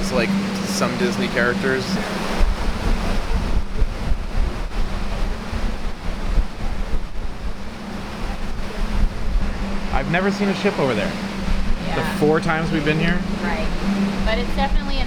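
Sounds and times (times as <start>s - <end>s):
low steady hum: 0.0s - 15.0s
sea rushing: 0.0s - 15.0s
wind buffeting microphone: 0.0s - 15.0s.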